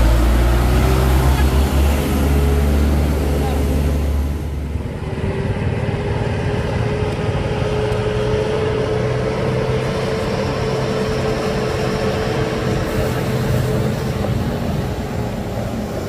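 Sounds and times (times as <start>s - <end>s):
truck engine running with whine: 0.0s - 16.0s.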